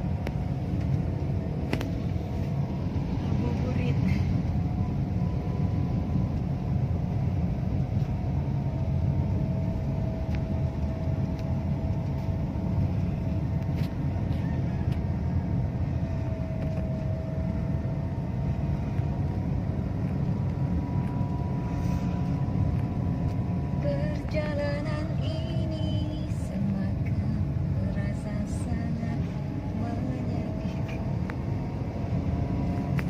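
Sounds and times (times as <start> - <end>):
car engine and tyres rumbling: 0.0 - 33.0
faint steady whine: 0.0 - 33.0.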